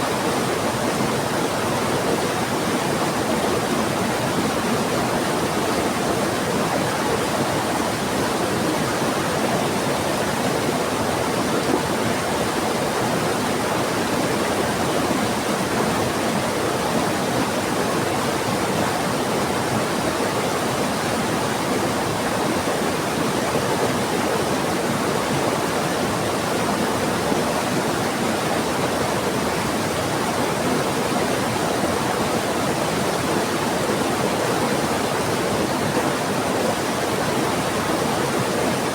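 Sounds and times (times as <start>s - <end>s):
fast-flowing river: 0.0s - 38.9s.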